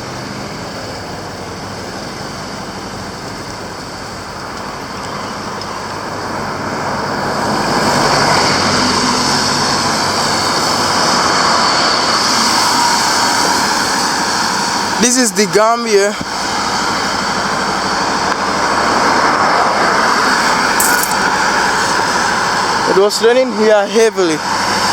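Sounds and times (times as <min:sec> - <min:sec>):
vehicle on wet road: 0:00.0 - 0:24.9.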